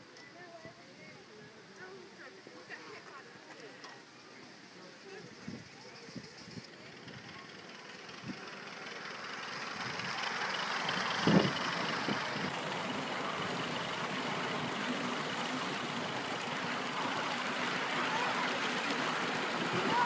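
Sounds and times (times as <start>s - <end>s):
model steam locomotive running: 0.0s - 20.0s.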